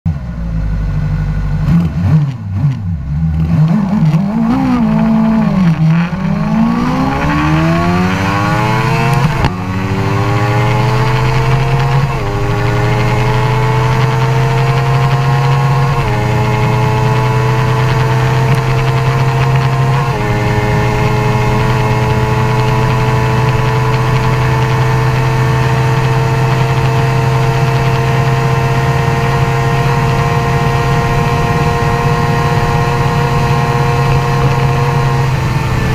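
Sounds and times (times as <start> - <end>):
motorcycle engine accelerating hard: 0.1 - 35.9.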